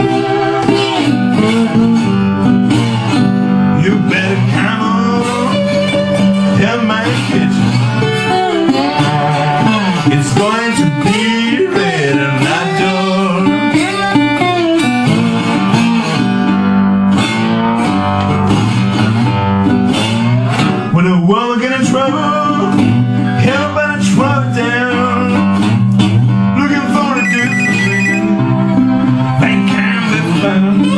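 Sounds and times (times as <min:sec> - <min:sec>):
acoustic guitar slow blues: 0:00.0 - 0:30.9.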